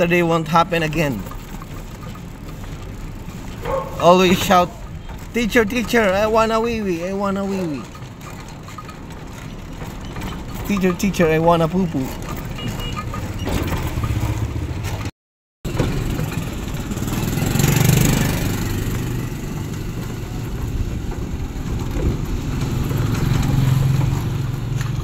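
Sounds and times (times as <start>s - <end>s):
motorcycle engine running: 0.0s - 15.1s, 15.7s - 25.0s
road noise: 0.0s - 25.0s.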